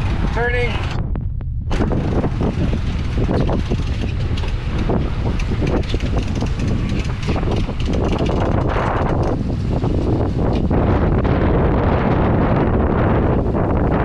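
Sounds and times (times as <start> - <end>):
low engine rumble: 0.0 - 14.0
wind buffeting microphone: 0.0 - 14.0.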